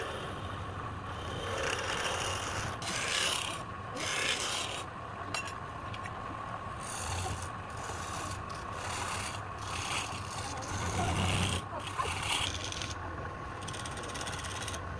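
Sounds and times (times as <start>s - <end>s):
tool scraping spinning wood: 0.0s - 5.5s, 6.8s - 14.9s.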